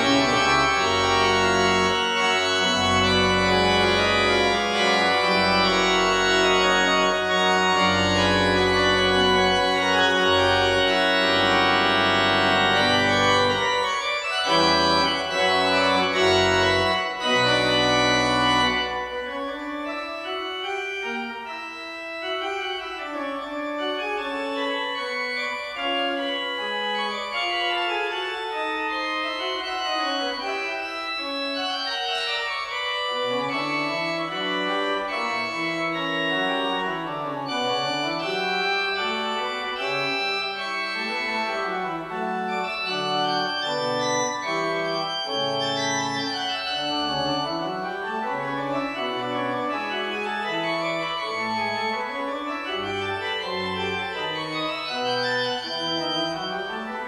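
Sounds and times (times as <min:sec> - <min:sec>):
organ playing: 0:00.0 - 0:57.0.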